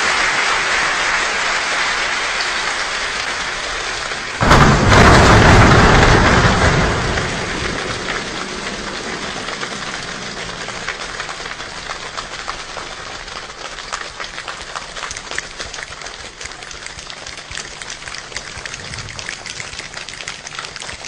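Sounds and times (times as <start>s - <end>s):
choir body percussion rain: 0.0s - 21.0s.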